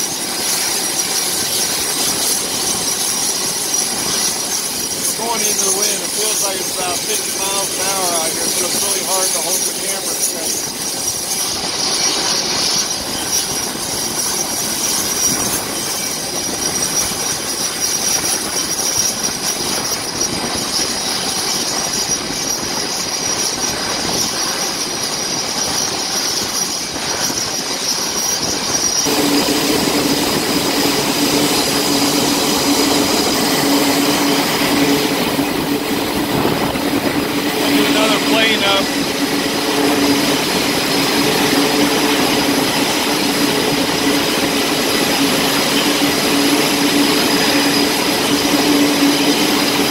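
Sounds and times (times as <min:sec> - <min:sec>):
jet engines roaring with whine: 0:00.0 - 0:49.9.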